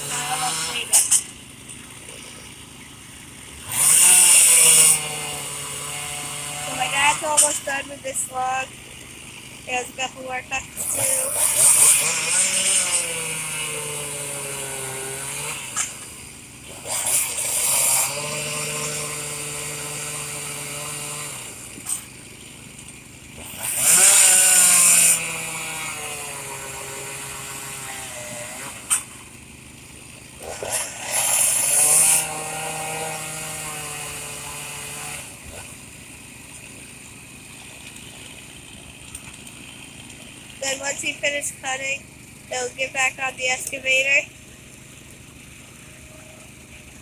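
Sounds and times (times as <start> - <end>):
chainsaw revving: 0.0 - 47.0.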